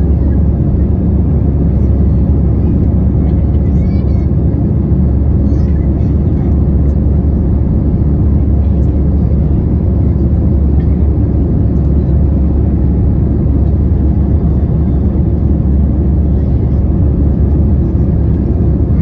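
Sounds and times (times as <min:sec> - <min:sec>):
jet engines rumbling in cabin: 0:00.0 - 0:19.0.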